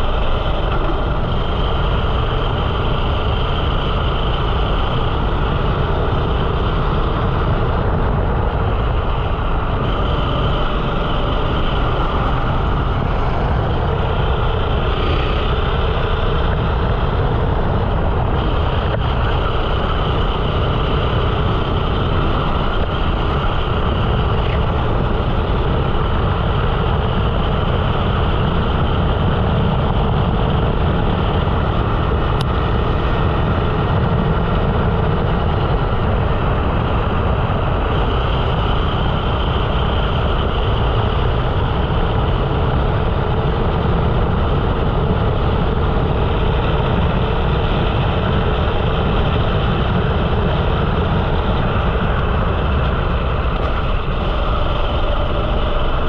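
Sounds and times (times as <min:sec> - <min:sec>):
kart engine drone: 0:00.0 - 0:56.0.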